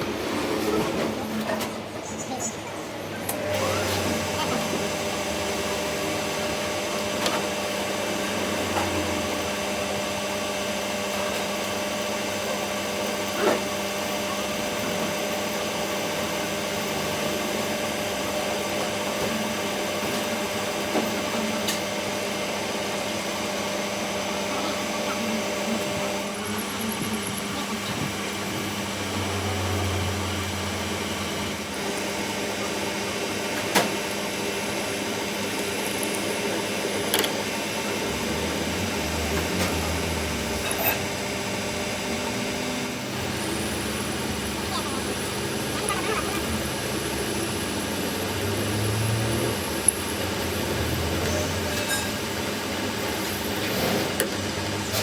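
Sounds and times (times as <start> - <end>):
workshop machine humming: 0.0 - 55.0.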